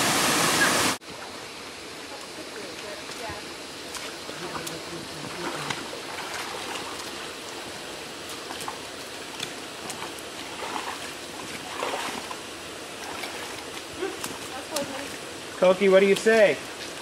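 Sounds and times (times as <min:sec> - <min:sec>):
boots wading through water: 0:02.2 - 0:17.0.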